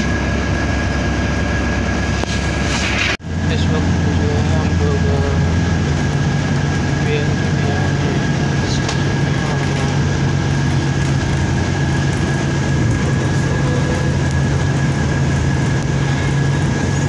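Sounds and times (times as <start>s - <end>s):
bus drive and road rumble: 0.0s - 17.0s.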